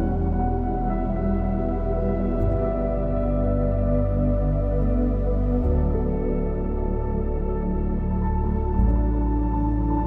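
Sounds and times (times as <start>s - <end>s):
ambient synth music: 0.0s - 10.0s.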